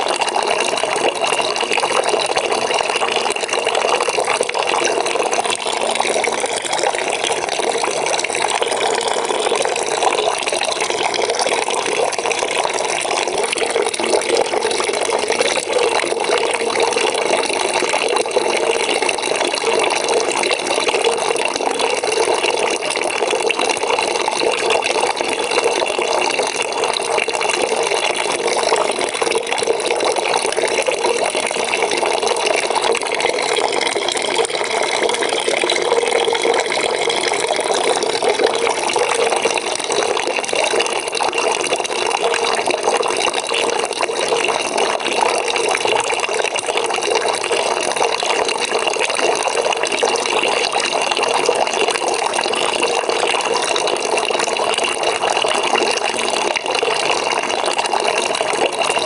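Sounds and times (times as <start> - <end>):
water pouring into a bucket: 0.0 - 59.0.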